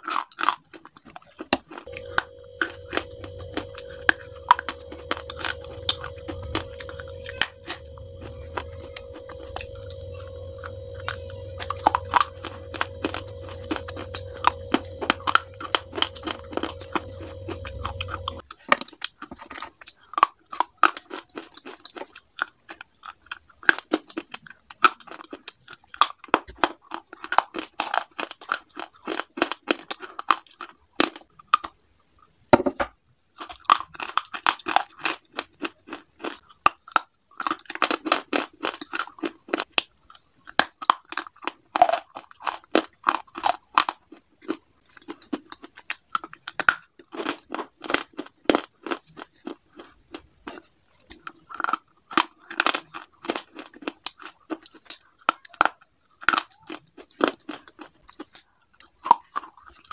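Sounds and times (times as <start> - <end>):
crunching and chewing slate: 0.0 - 31.7, 33.4 - 59.9.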